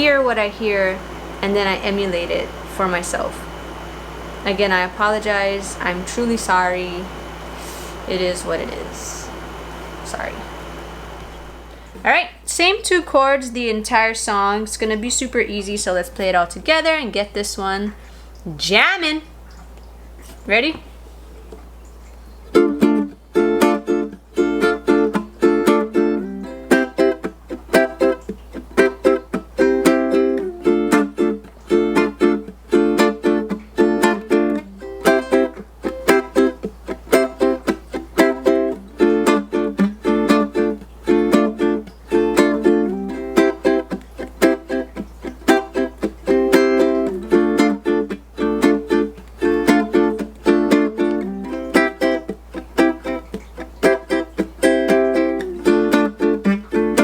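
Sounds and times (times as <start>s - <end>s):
ukulele strummed: 0.0s - 11.8s, 22.5s - 57.0s.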